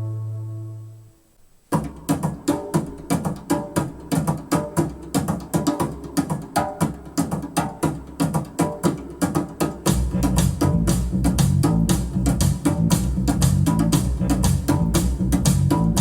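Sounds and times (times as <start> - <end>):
steady percussive beat: 1.7 - 16.0.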